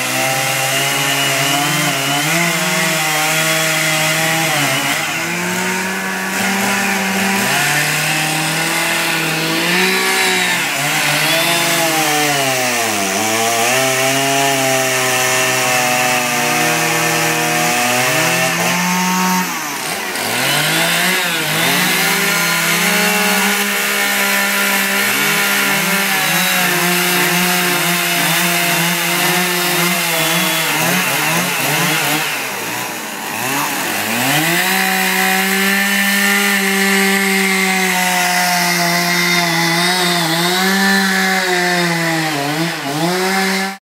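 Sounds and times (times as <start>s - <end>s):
chainsaw cutting wood: 0.0s - 43.8s.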